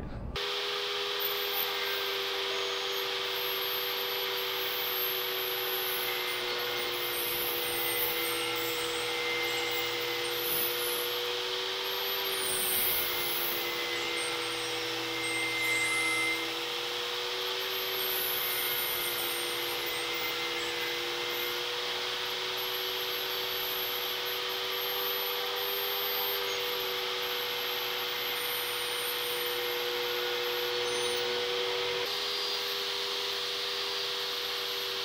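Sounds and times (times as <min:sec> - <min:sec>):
table saw cutting wood: 0:00.0 - 0:35.0.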